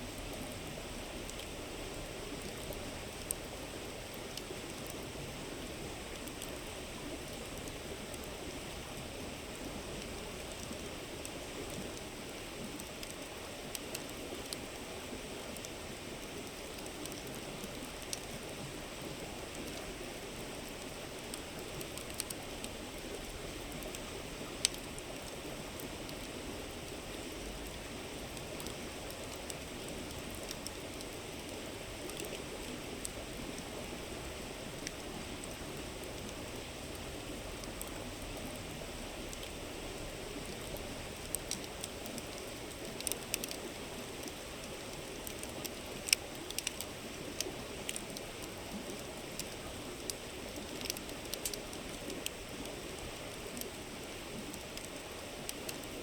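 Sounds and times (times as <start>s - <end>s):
campfire wood crackling: 0.0s - 56.0s.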